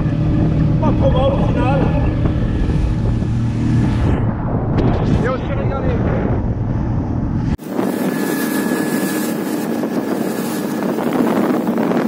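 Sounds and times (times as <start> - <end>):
motorboat engine drone: 0.0 - 4.7, 6.4 - 12.0
wind on the microphone: 0.0 - 12.0.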